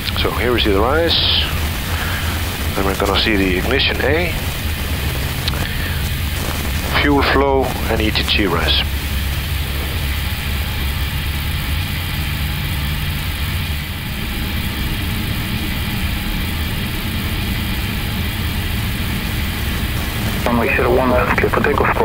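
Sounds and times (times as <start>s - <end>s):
jet engines humming and rumbling: 0.0s - 22.0s.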